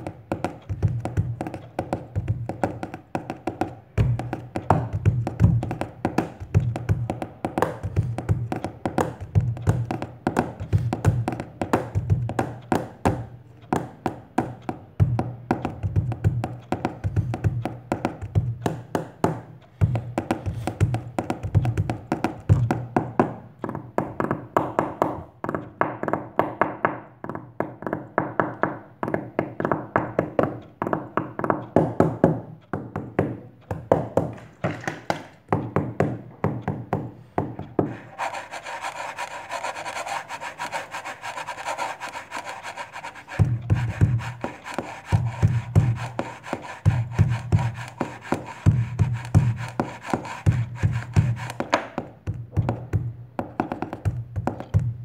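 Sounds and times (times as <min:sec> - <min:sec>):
fingers drumming on book and table: 0:00.0 - 0:55.0.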